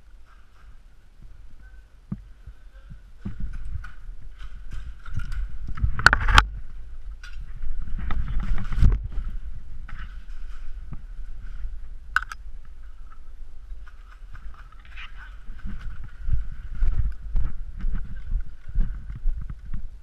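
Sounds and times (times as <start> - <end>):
footsteps and gear rustling: 0.0 - 20.0.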